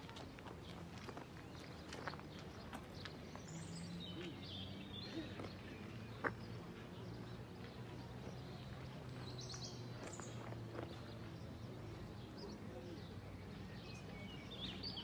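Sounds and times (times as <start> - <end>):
faint distant voices: 0.0 - 15.0
birds chirping: 0.6 - 15.0.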